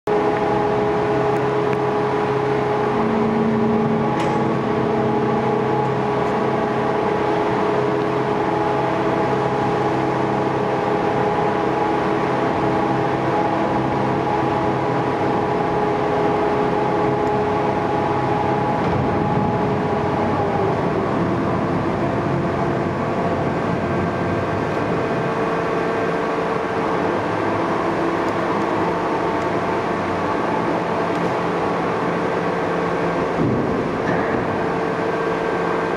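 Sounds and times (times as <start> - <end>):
crane drive humming: 0.1 - 35.9
steady mechanical tones: 0.1 - 35.9.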